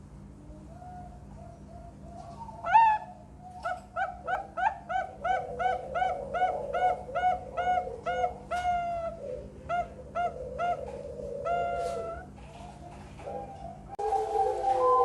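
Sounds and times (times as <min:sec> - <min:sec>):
dove cooing: 0:00.4 - 0:15.0.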